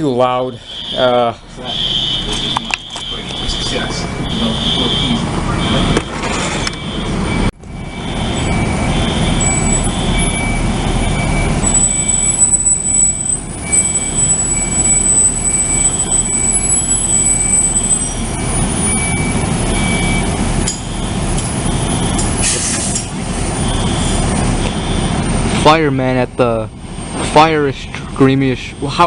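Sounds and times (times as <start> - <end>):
fire alarm pulsing tone: 0.2 - 22.6, 23.3 - 25.7.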